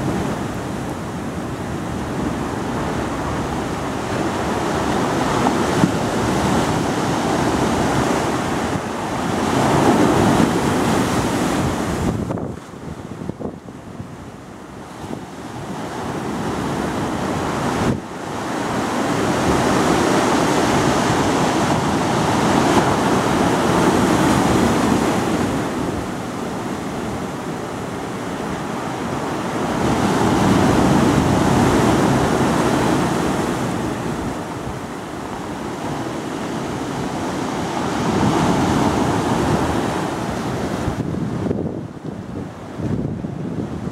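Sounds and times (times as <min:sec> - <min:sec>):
surf breaking over rocks: 0:00.0 - 0:13.5, 0:14.9 - 0:41.5
wave crashing: 0:00.0 - 0:13.6, 0:14.8 - 0:43.9
wind buffeting microphone: 0:00.0 - 0:43.9.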